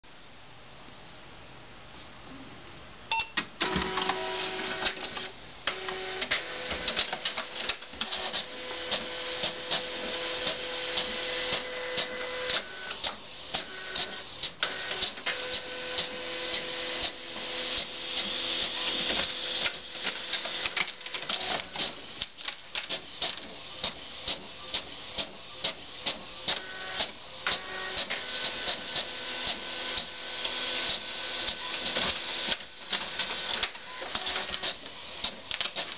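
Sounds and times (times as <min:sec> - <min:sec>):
printer sharp clicks: 0:03.4 - 0:24.5, 0:25.2 - 0:35.9
printer mechanical whir: 0:03.6 - 0:35.9.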